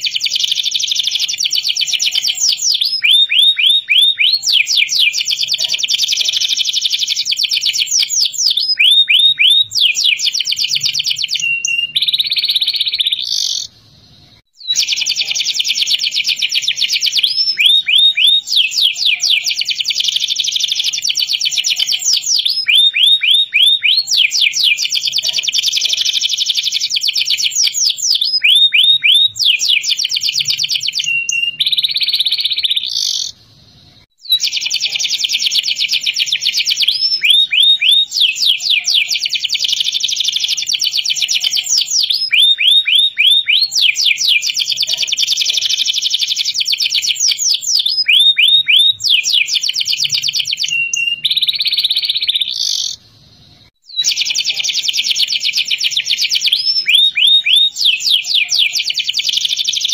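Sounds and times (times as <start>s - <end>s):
canary singing high rapid trills: 0.0s - 59.9s.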